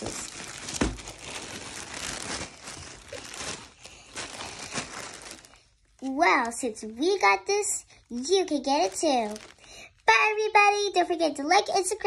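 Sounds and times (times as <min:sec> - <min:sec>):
plastic wrapping crinkling: 0:00.0 - 0:10.8.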